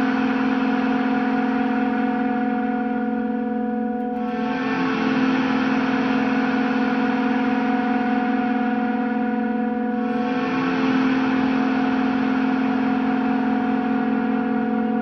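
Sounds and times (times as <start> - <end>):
guitar drone with effects: 0.0 - 15.0.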